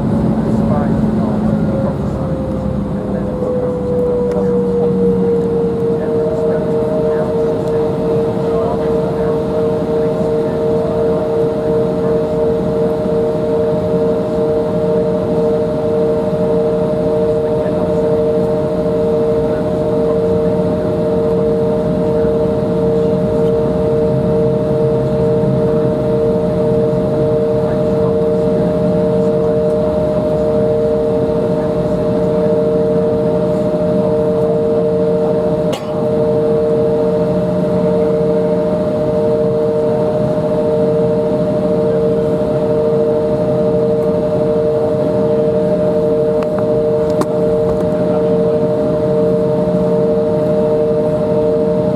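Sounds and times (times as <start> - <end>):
jet engines droning in cabin: 0.0 - 51.9.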